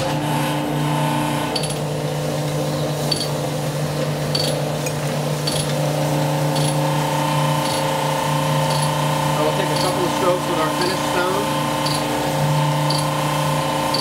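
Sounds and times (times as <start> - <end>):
cylinder hone motor humming: 0.0 - 14.0.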